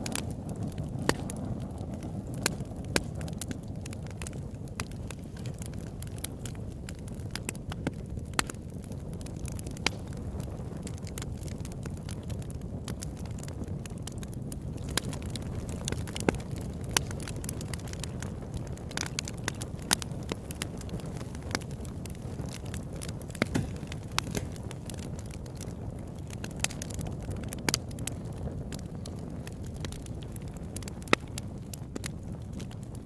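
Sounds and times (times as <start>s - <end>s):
wood crackling and popping: 0.0s - 33.0s.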